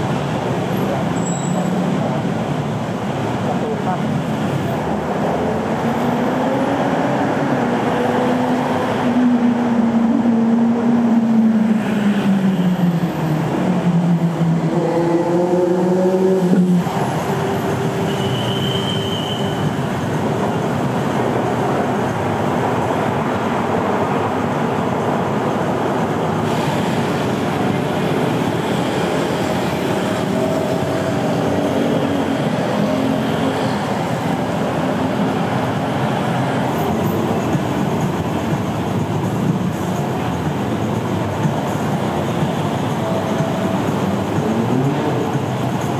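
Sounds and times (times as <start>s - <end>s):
train running: 0.0s - 45.9s.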